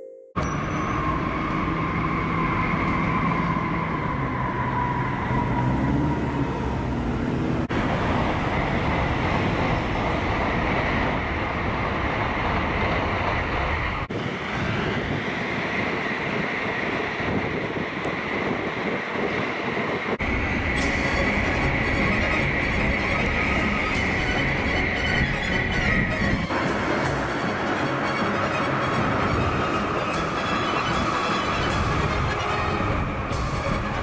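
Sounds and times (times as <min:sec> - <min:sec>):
train rumbling past: 0:00.4 - 0:34.0.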